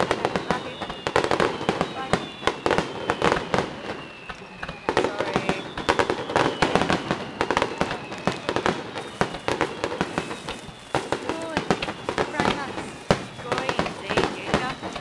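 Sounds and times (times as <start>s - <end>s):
fireworks popping and crackling: 0.0s - 15.0s.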